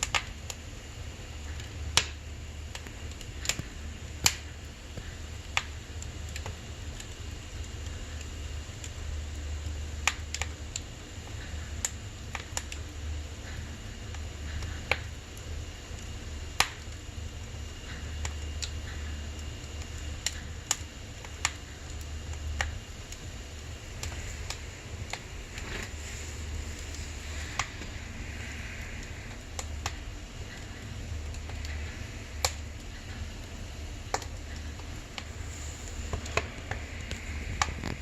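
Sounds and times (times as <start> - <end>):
firewood crackling and popping: 0.0 - 38.0
low steady hum: 0.0 - 38.0.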